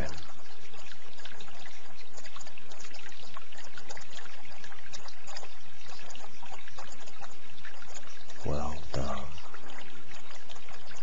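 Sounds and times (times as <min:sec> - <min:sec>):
water trickling: 0:00.0 - 0:11.0.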